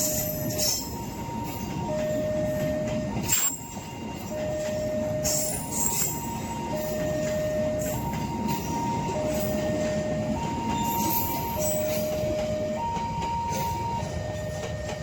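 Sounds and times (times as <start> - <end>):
train wheels on rails: 0.0 - 15.0
two-tone crossing alarm: 0.0 - 15.0.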